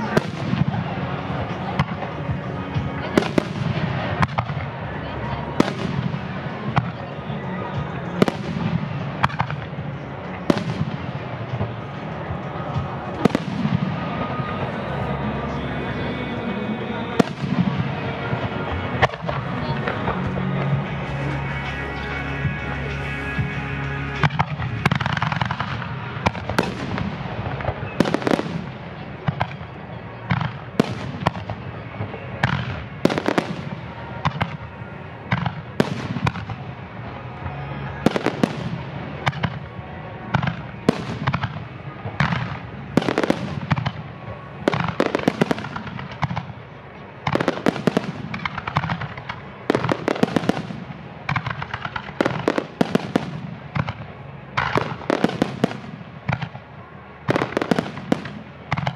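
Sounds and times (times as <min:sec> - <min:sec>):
fireworks booming: 0:00.0 - 0:04.8, 0:05.5 - 0:37.0, 0:38.0 - 0:58.9
fireworks crackling: 0:00.0 - 0:58.9.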